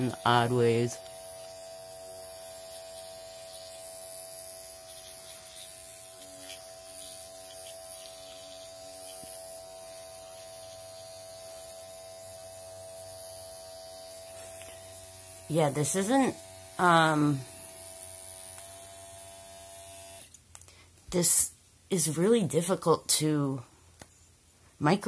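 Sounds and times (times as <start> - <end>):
microneedling pen buzzing: 0.0 - 20.4.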